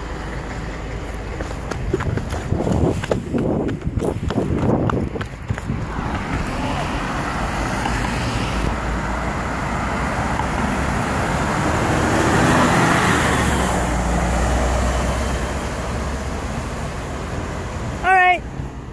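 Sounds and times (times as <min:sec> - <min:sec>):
bus engine: 0:00.0 - 0:18.9
road traffic passing: 0:00.0 - 0:18.9.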